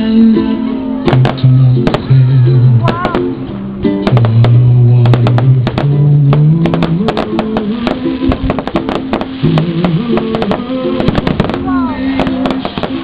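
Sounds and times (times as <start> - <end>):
loud music with bass line: 0.0 - 13.0
fireworks cracking: 0.4 - 13.0.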